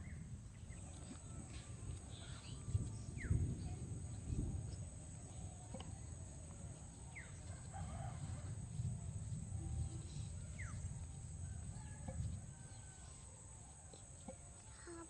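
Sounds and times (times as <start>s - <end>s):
low rumble: 0.0s - 13.4s.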